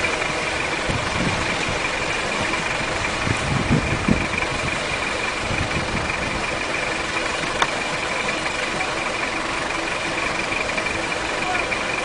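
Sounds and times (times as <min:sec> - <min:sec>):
car engine idling: 0:00.0 - 0:12.0
constant high whine: 0:00.0 - 0:12.0.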